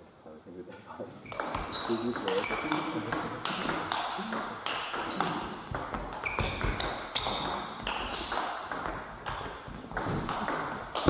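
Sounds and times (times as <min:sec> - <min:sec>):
shoes squeaking on floor: 0:01.2 - 0:11.0.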